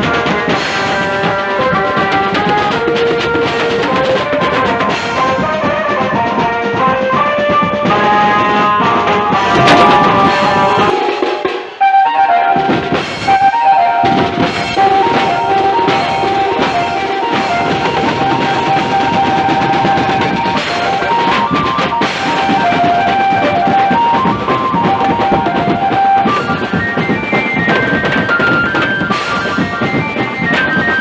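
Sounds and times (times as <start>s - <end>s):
drums and cymbals beating: 0.0s - 31.0s
procession band music: 0.0s - 31.0s.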